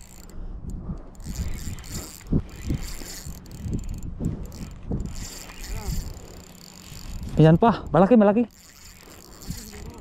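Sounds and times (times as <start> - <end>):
fishing reel whirring and ticking: 0.0 - 10.0.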